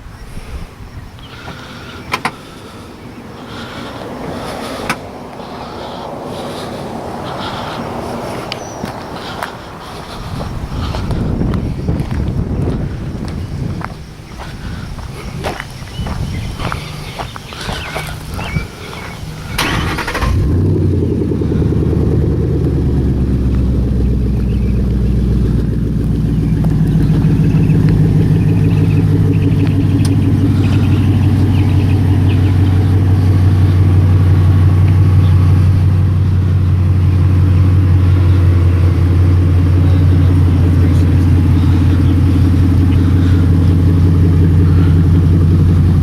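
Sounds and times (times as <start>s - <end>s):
car engine idling: 1.1s - 46.0s.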